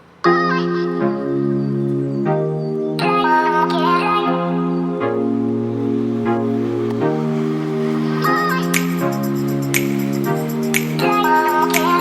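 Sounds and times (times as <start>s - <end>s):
instrumental music with sustained chords: 0.2s - 12.0s.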